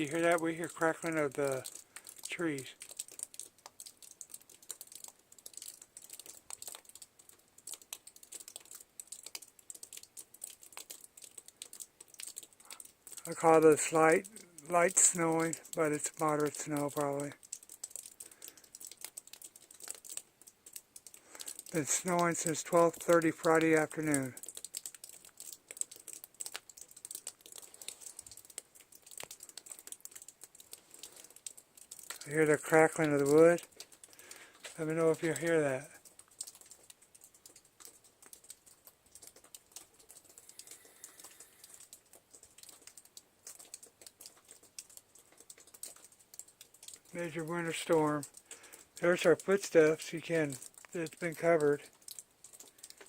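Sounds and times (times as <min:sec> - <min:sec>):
faint irregular crackling: 0:00.0 - 0:53.0.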